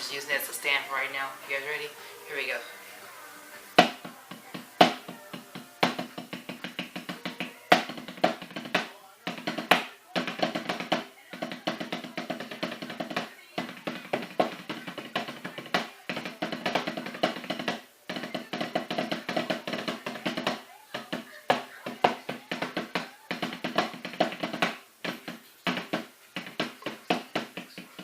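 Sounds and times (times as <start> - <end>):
snare drum rolls and hits: 3.8 - 28.0.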